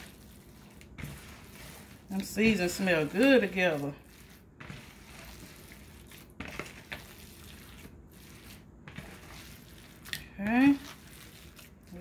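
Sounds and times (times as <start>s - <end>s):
wet squishing of meat kneaded: 0.0s - 12.0s.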